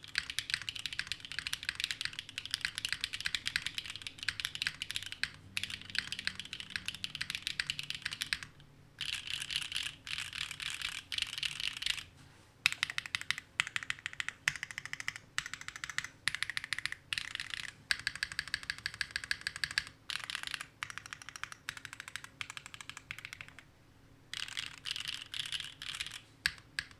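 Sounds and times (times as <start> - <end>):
mechanical keyboard typing: 0.0 - 12.1, 12.7 - 23.6, 24.3 - 26.9.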